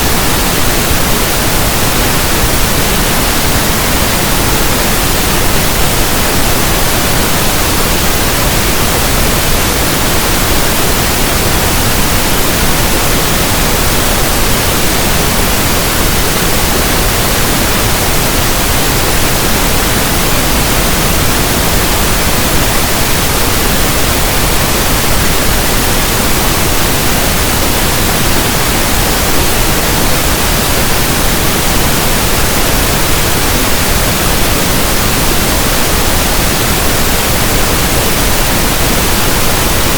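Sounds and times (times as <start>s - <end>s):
soft static hiss: 0.0s - 39.9s.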